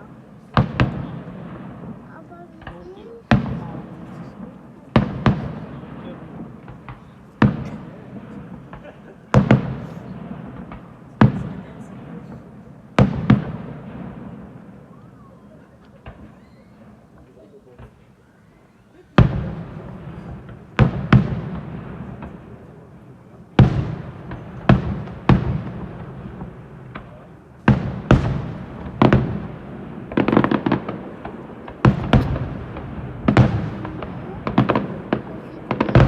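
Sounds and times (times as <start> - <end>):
crackling fireworks reports: 0.0 - 36.0
fireworks bangs: 0.0 - 36.0.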